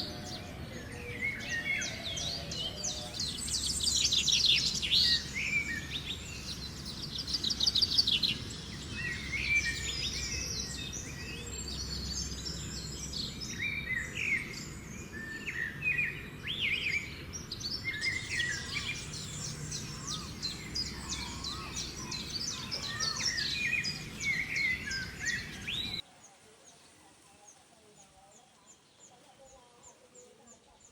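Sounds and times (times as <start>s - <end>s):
birds trilling and chirping: 0.0s - 30.9s.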